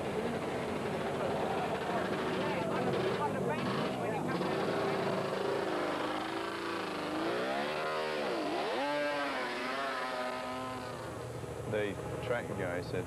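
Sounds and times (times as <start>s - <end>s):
racing motorcycle engine: 0.0s - 12.8s.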